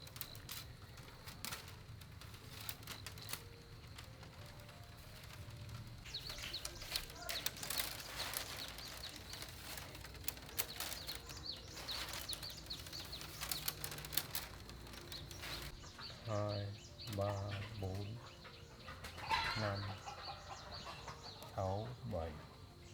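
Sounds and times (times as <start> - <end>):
bamboo strips clicking and rustling: 0.0 - 22.8
small birds chirping: 0.0 - 22.9.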